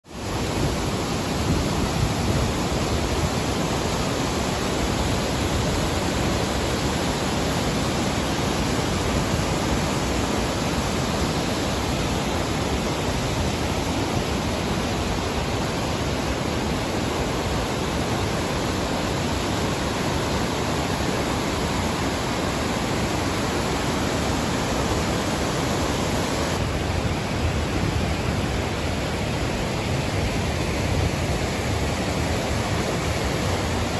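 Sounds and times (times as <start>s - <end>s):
water rushing through floodgates: 0.1s - 33.9s.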